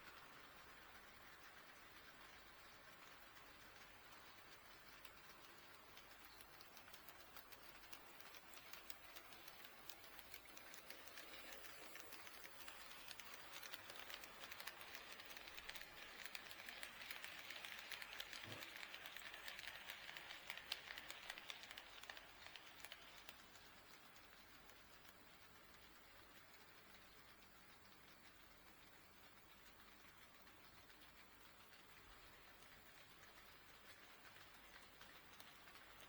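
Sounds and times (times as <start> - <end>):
model train wheels clicking: 0.0 - 36.0.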